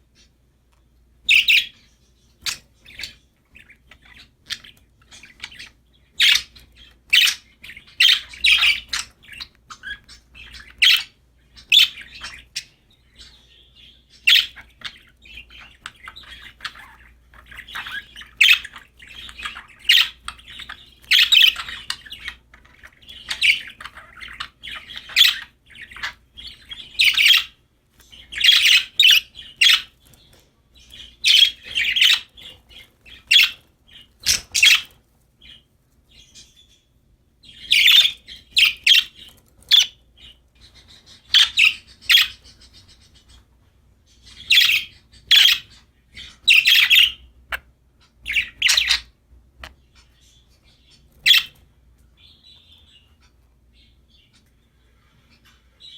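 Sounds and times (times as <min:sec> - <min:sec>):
budgies chirping: 0:00.0 - 0:55.9.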